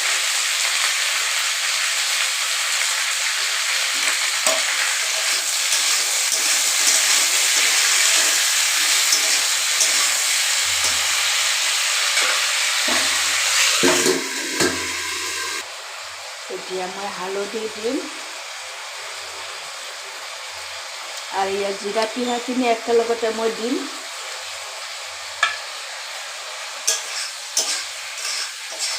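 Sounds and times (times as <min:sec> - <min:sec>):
vegetables sizzling in a pan: 0:00.0 - 0:28.9.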